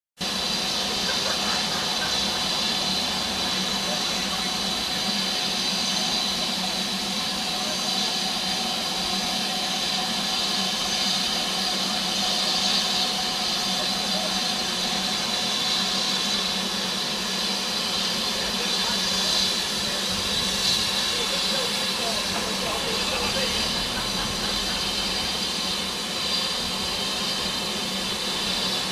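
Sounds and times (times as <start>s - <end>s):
steam hissing from locomotive: 0.2s - 28.9s.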